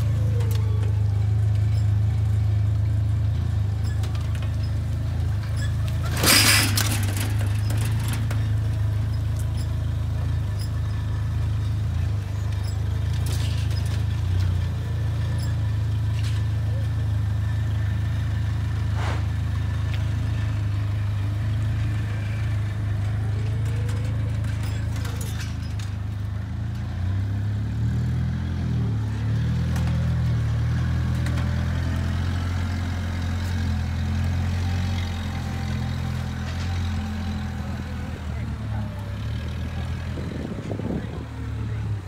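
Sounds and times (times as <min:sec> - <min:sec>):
forklift engine running: 0:00.0 - 0:42.0.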